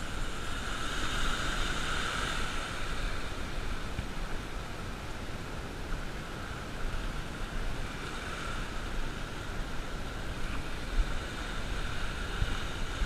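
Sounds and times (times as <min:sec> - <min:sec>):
surf washing onto a beach: 0:00.0 - 0:13.0
wind on microphone: 0:00.0 - 0:13.0.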